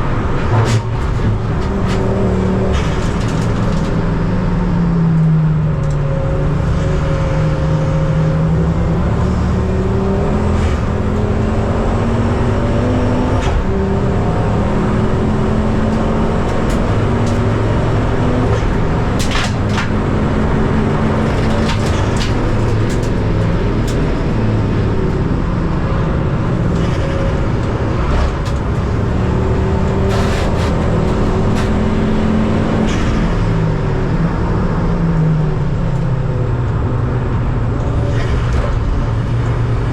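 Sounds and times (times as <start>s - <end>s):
race car engine pulling hard: 0.0s - 39.9s.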